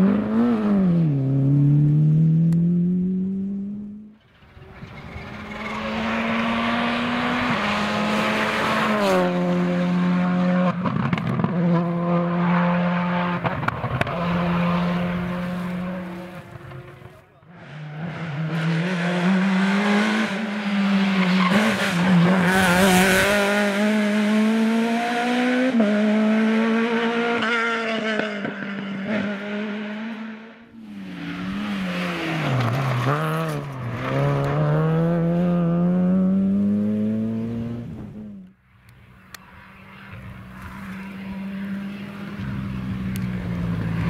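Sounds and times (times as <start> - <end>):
rally car engine revving: 0.0 - 38.6.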